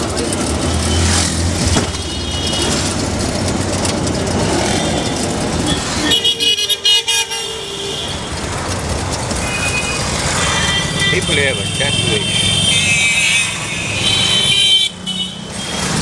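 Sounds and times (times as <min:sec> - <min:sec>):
road and engine noise: 0:00.0 - 0:16.0.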